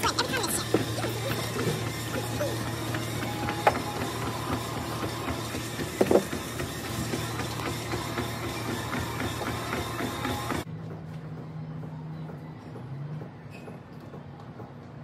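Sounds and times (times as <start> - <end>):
machine hum: 0.0 - 12.6.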